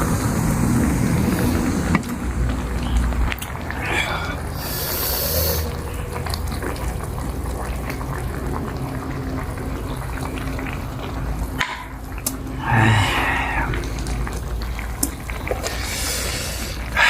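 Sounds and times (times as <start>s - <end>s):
broth bubbling at a boil: 0.0s - 17.0s.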